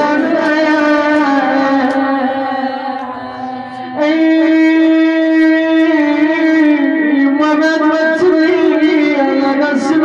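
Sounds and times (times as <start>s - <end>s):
mournful lament melody: 0.0s - 10.0s.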